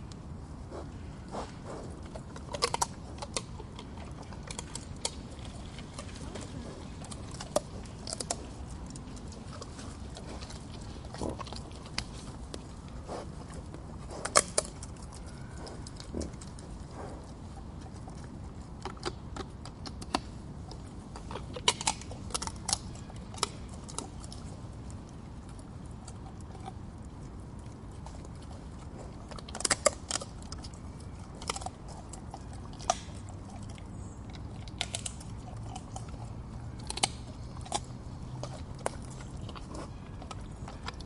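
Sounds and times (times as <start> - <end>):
low background noise: 0.0 - 41.0
boar cracking nut shells: 1.3 - 41.0.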